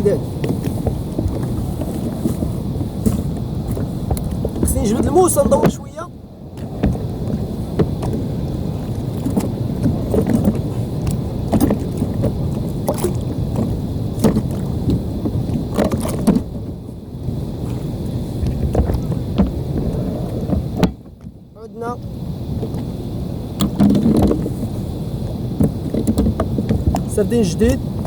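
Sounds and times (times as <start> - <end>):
low rumble of wind: 0.0 - 28.0
water lapping around kayak: 0.0 - 28.0.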